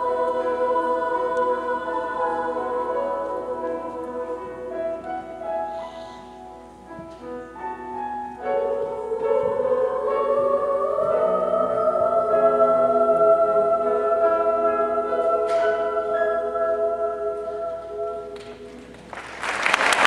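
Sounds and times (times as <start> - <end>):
girls' choir singing: 0.0 - 5.8, 7.7 - 20.0
piano accompaniment: 0.0 - 20.0.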